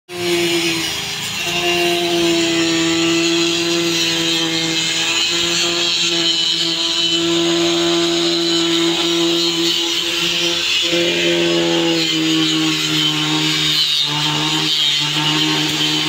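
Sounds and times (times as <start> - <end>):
angle grinder cutting sheet metal: 0.1 - 16.0.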